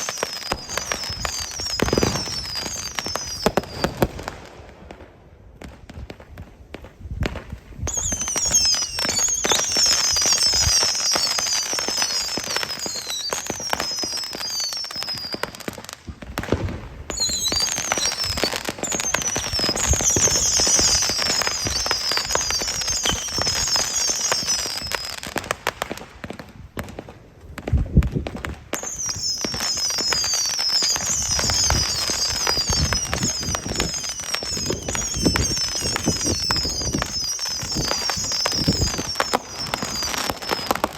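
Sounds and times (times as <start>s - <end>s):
falling firework whistles: 0.0s - 4.5s, 7.8s - 26.0s, 28.4s - 40.9s
fireworks crackling: 0.0s - 40.9s.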